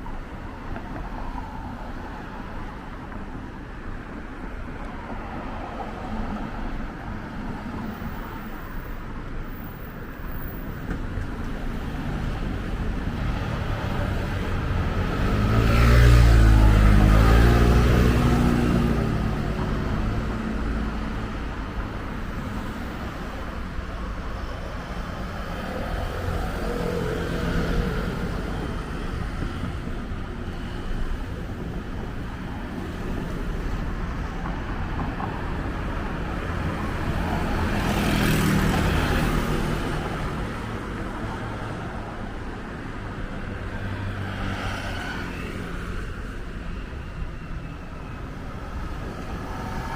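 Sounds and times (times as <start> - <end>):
street traffic rumble: 0.0 - 49.9.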